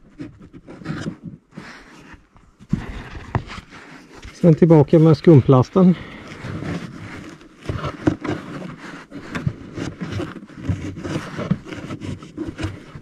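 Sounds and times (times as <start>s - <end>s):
foam and plastic trim rustling: 0.0s - 13.0s.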